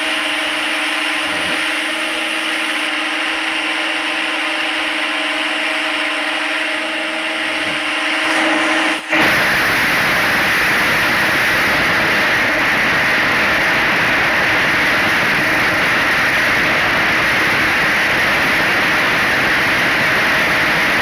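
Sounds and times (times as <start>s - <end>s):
harsh machining noise: 0.0s - 21.0s
lathe humming: 0.0s - 21.0s.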